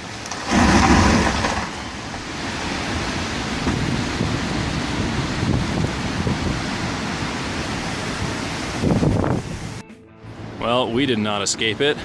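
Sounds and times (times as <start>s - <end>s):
strong wind rushing: 0.0s - 9.8s.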